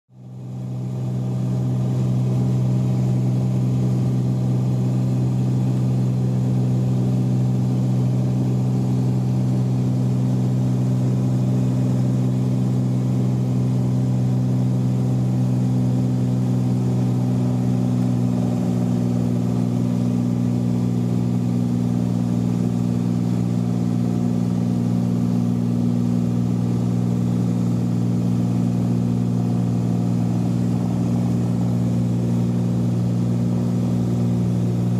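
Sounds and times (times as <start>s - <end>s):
propeller plane engine drone: 0.1s - 34.9s.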